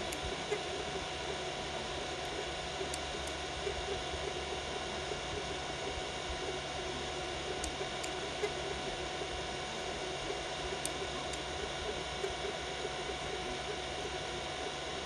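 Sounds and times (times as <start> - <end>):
printer fans and motors whirring: 0.0 - 15.0.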